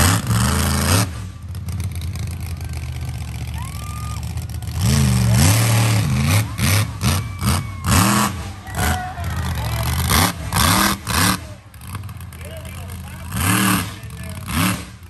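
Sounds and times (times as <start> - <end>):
truck engine idling and revving: 0.0 - 15.0.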